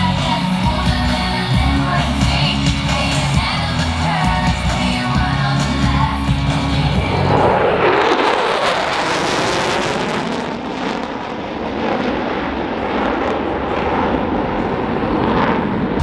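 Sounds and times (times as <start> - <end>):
loud jet engine roar: 0.0 - 16.0.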